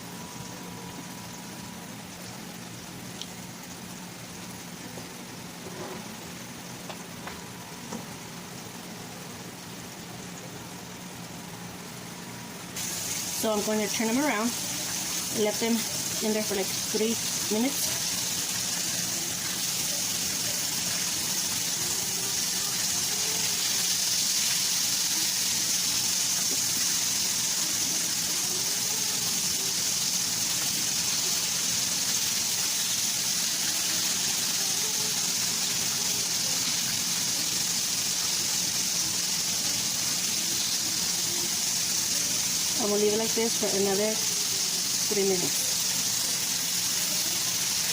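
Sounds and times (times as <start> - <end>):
food frying in hot oil: 0.0 - 47.9.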